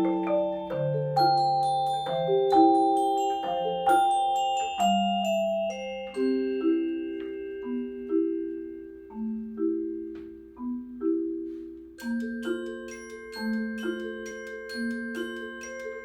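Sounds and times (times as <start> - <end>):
mallet percussion playing a waltz: 0.0 - 16.0.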